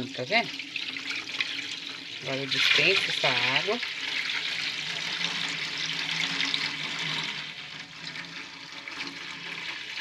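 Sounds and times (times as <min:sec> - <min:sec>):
water pouring into metal pan: 0:00.0 - 0:10.0.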